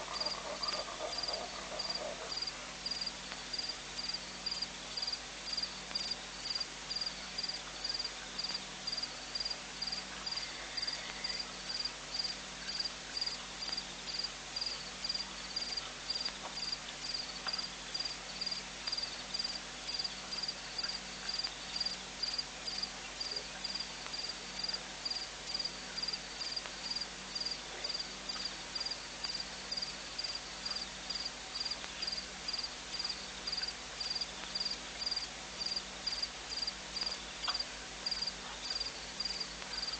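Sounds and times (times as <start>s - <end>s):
faint low hum: 0.0s - 39.9s
cricket chirping: 0.1s - 39.9s.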